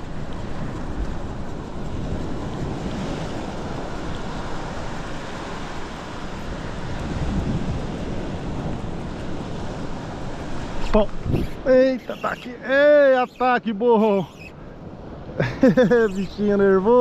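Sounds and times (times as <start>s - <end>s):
sea waves washing: 0.0s - 17.0s
wind buffeting microphone: 0.0s - 17.0s.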